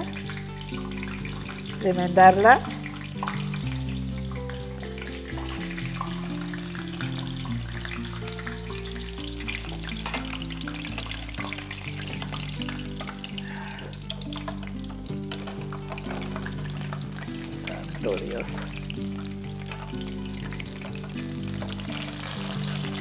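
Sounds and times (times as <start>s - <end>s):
food sizzling in hot oil: 0.0s - 23.0s
soft background music: 0.0s - 23.0s.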